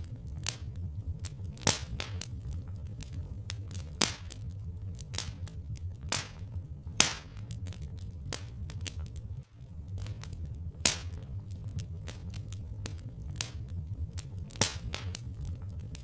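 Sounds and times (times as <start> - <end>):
fire pops and snaps: 0.0 - 16.0
low steady rumble: 0.0 - 16.0
wood fire crackling: 0.0 - 16.0.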